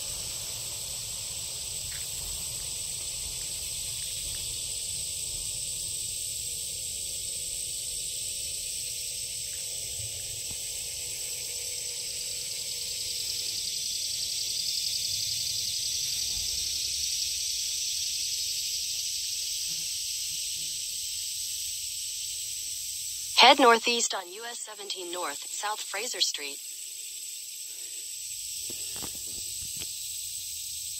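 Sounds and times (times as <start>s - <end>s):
insects buzzing chorus: 0.0s - 23.3s, 25.3s - 30.9s.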